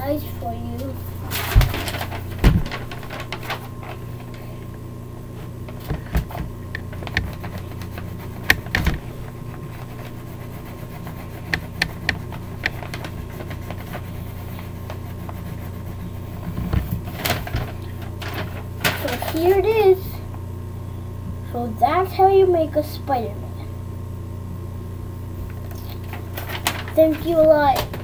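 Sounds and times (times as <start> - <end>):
low hum: 0.0 - 26.9.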